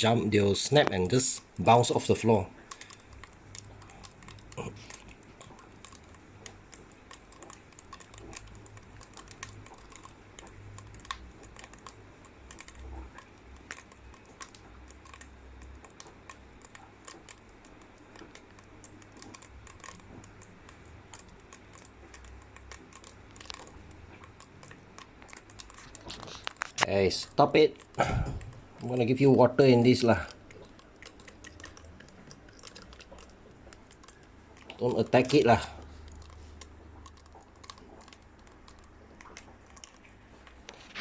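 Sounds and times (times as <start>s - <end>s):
ants snapping mandibles: 0.8s - 41.0s.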